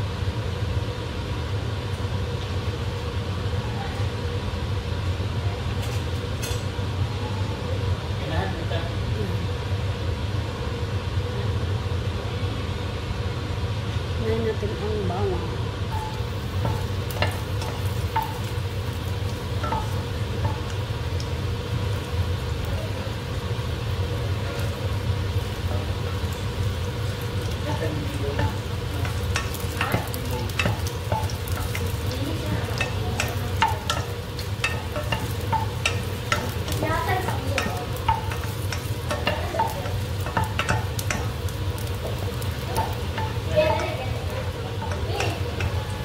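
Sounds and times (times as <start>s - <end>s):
garlic sizzling in oil: 0.0s - 12.1s, 12.7s - 46.0s
steady low hum: 0.0s - 46.0s.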